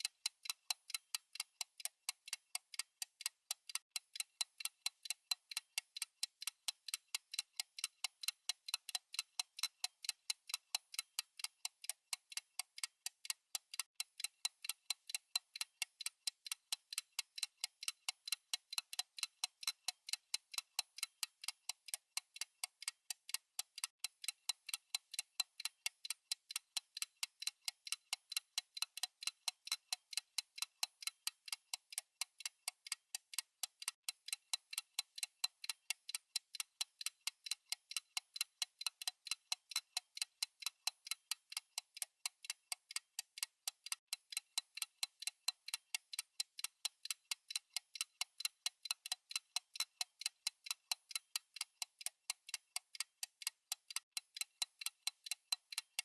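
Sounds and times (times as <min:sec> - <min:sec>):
fast timer ticking: 0:00.0 - 0:56.0.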